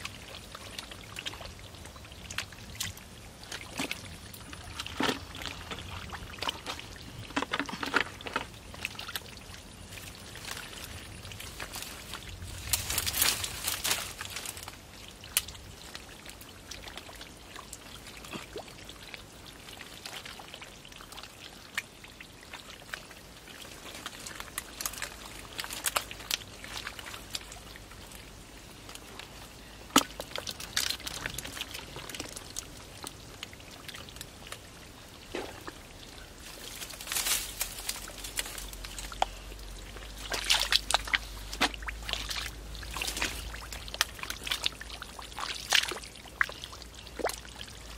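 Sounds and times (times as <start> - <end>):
muddy water sloshing and splashing: 0.0 - 47.9.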